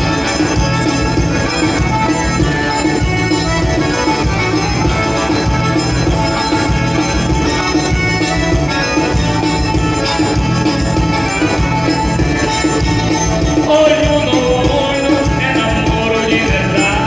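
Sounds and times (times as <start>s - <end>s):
dance music with jingling percussion: 0.0s - 17.0s.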